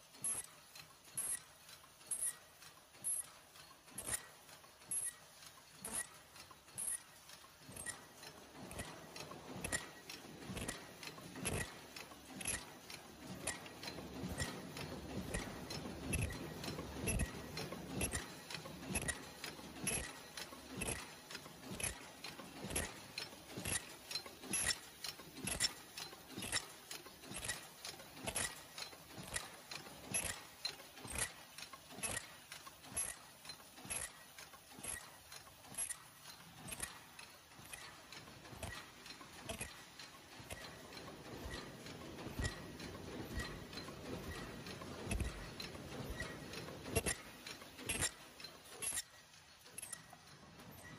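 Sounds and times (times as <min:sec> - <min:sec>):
machine clacking rapidly: 0:00.0 - 0:50.9.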